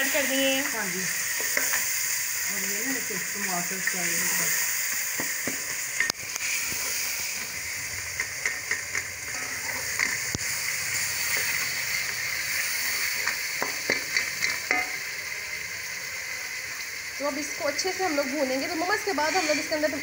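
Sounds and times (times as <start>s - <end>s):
masala sizzling in hot oil: 0.0s - 20.0s.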